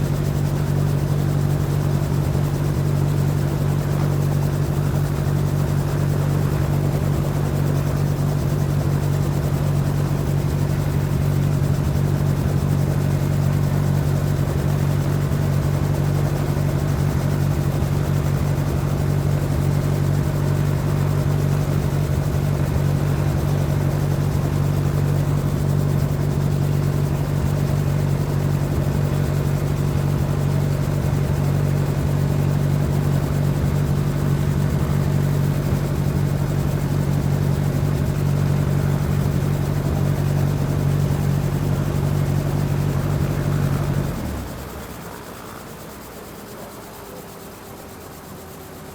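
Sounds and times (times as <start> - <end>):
helicopter engine and rotor hum: 0.0 - 48.9.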